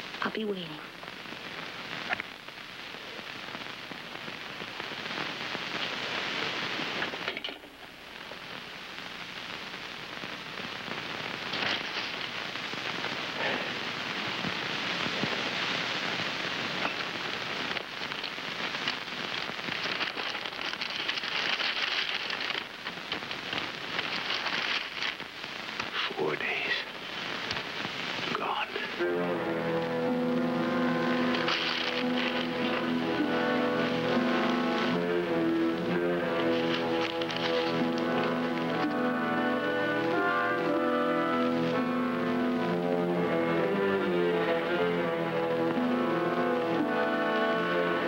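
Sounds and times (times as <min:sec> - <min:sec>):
heavy rain hissing: 0:00.0 - 0:48.0.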